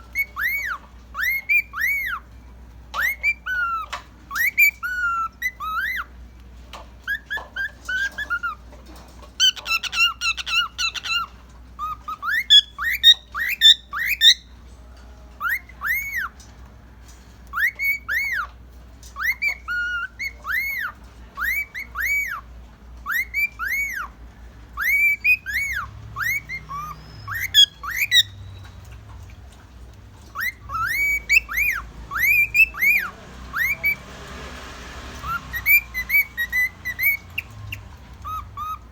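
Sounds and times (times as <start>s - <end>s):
cockatiel whistling: 0.0s - 2.3s, 3.0s - 6.1s, 7.0s - 8.6s, 9.4s - 14.6s, 15.4s - 16.4s, 17.5s - 18.6s, 19.2s - 22.4s, 23.0s - 24.2s, 24.8s - 28.9s, 30.3s - 38.9s.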